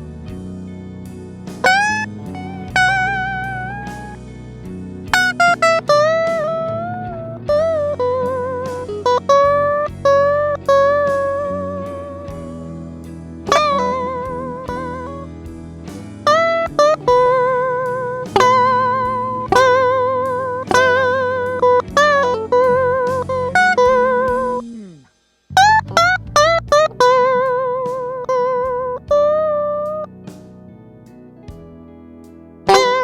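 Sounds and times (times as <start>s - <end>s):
blues guitar lead: 0.0s - 33.0s
sustained low backing: 0.0s - 33.0s.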